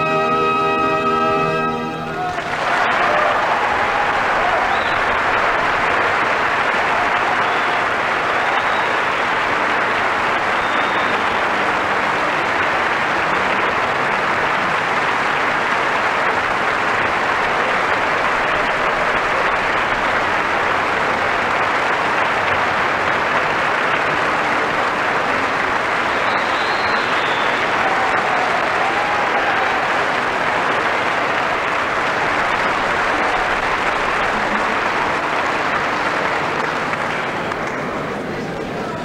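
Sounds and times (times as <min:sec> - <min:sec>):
audience applauding: 0:00.0 - 0:39.0.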